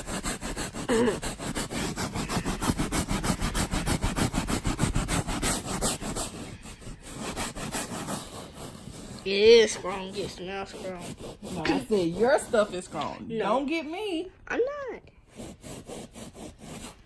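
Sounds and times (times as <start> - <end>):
brush scrubbing fabric upholstery: 0.0 - 13.2, 15.3 - 17.0.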